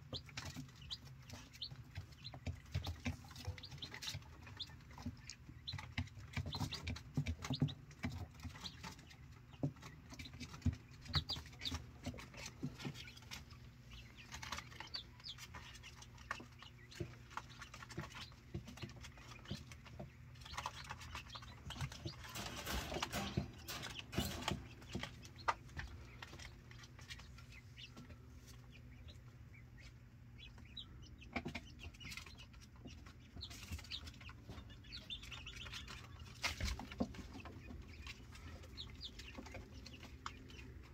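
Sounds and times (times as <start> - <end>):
chicks pecking at feed dish: 0.0 - 40.9
chicks peeping: 0.0 - 40.9.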